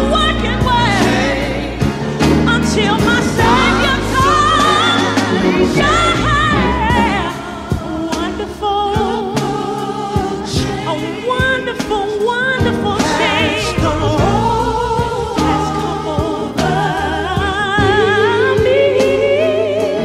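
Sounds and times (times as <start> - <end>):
instrumental accompaniment: 0.0 - 20.0
person singing with vibrato: 0.0 - 20.0.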